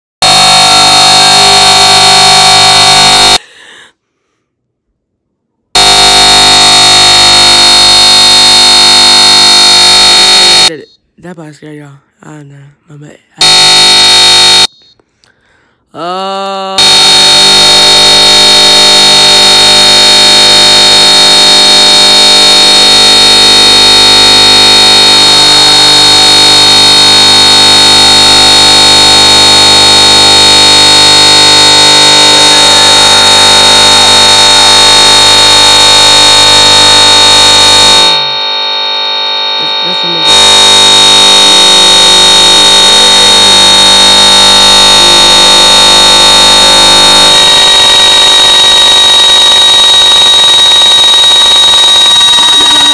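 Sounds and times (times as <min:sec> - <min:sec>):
distorted buzzing drone: 0:00.2 - 0:03.4, 0:05.8 - 0:10.7, 0:13.4 - 0:14.7, 0:16.8 - 0:52.9
piercing high whine: 0:00.2 - 0:03.4, 0:05.8 - 0:10.7, 0:13.4 - 0:14.8, 0:16.8 - 0:52.9.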